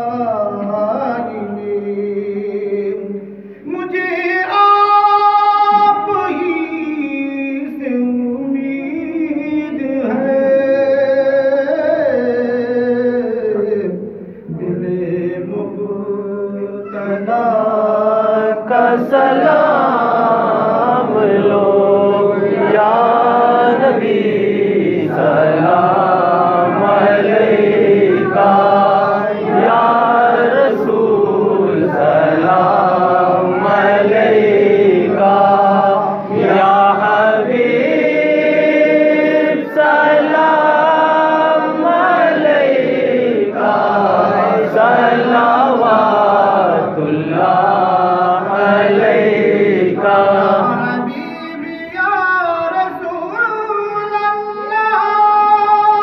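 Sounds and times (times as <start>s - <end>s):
man chanting: 0.0s - 47.0s, 50.2s - 56.0s.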